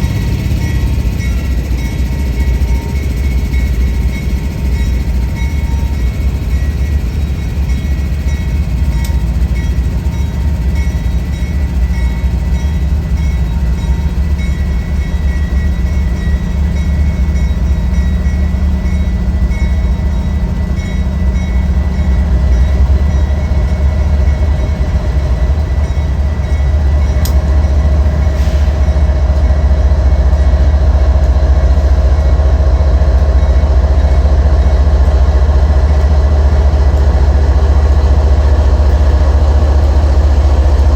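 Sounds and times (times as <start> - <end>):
train rumbling by: 0.0 - 40.9.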